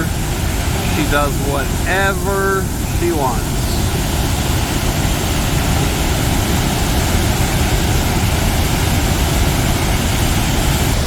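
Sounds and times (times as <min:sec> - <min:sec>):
waterfall rushing and rumbling: 0:00.0 - 0:11.0.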